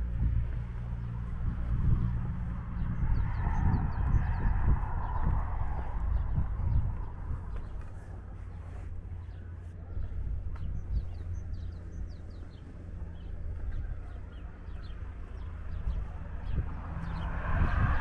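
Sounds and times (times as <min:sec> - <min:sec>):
broad rushing noise: 0:00.0 - 0:09.2, 0:12.0 - 0:18.0
small birds chirping: 0:00.0 - 0:18.0
steady low rumble: 0:00.0 - 0:18.0.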